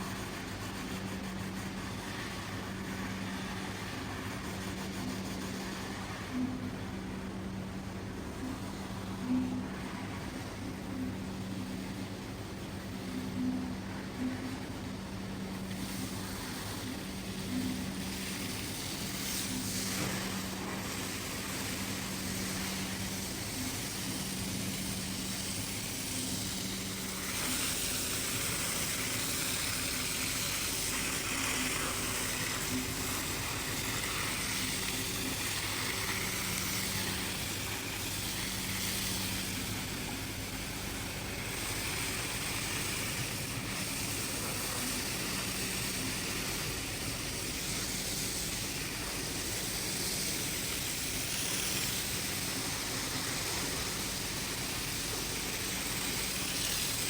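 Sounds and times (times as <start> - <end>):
continuous hiss: 0.0 - 57.0
machine low hum: 0.0 - 57.0.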